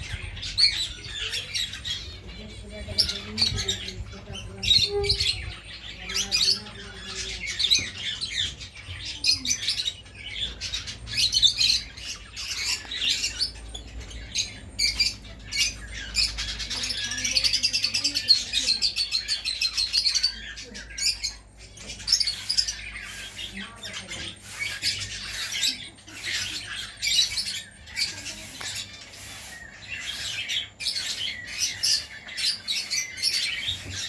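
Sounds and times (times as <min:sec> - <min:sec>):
birds chirping and squawking: 0:00.0 - 0:34.0.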